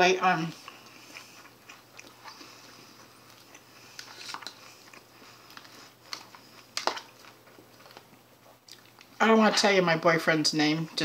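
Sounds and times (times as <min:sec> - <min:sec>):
person chewing salad: 0:00.2 - 0:09.2.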